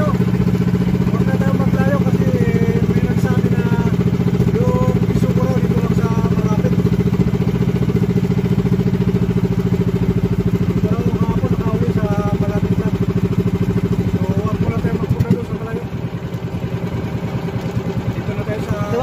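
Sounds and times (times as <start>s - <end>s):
small boat engine running: 0.0s - 19.0s.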